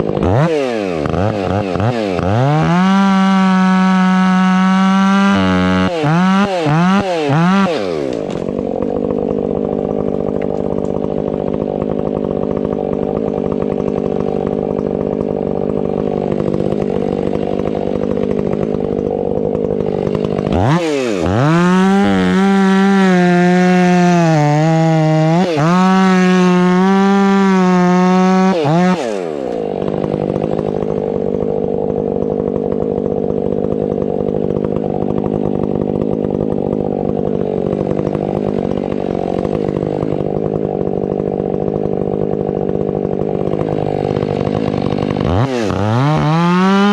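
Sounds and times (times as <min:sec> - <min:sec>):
chainsaw cutting wood: 0:00.0 - 0:46.9
chainsaw revving and idling: 0:00.0 - 0:46.9.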